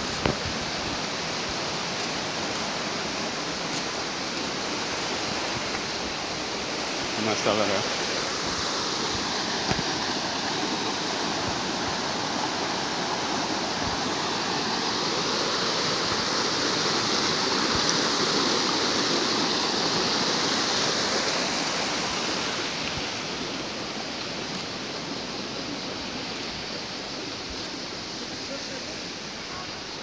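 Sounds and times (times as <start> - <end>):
water rushing over waterfall: 0.0 - 30.0.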